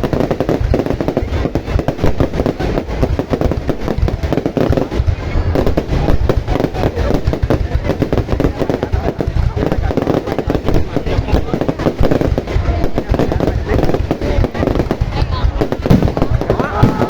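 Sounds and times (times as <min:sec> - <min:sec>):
fireworks crackling and booming: 0:00.0 - 0:17.0.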